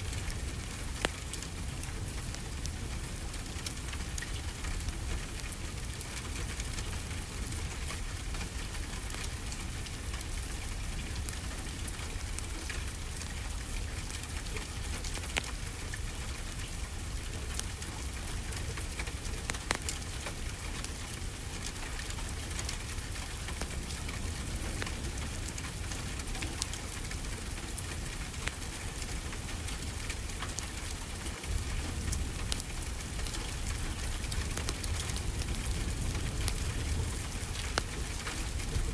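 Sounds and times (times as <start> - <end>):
steady rainfall: 0.0 - 38.9
wood fire crackling: 0.0 - 38.9.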